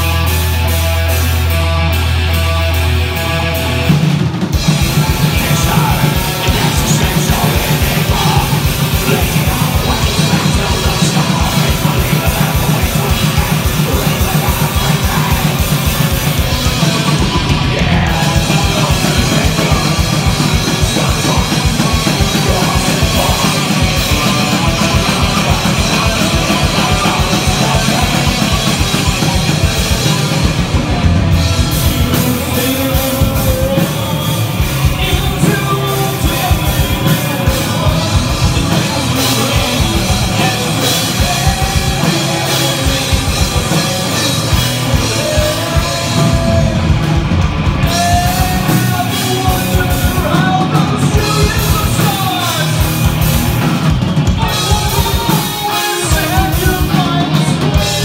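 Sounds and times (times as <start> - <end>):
fast drumming: 0.0 - 58.0
metal band playing: 0.0 - 58.0
person singing: 4.5 - 58.0.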